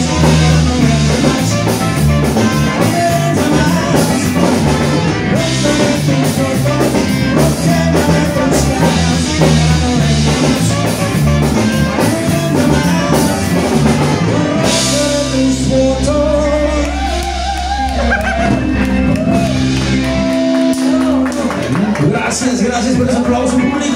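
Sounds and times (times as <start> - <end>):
man singing: 0.0 - 18.8, 22.0 - 23.9
live band playing: 0.0 - 23.9.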